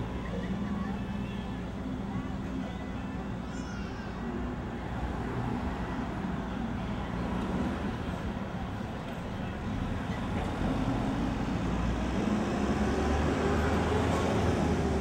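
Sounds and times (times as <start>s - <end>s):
city street traffic: 0.0s - 15.0s
electric streetcar on rails: 0.0s - 15.0s.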